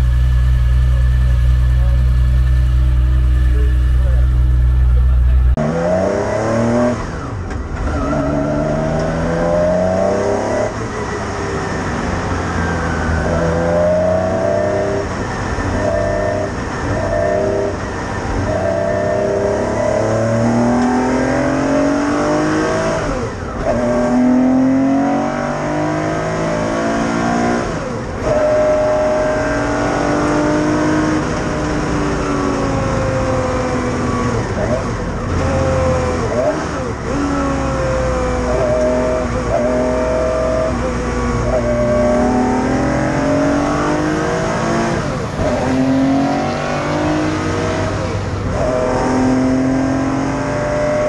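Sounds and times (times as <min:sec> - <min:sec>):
car engine accelerating through gears: 0:00.0 - 0:51.0.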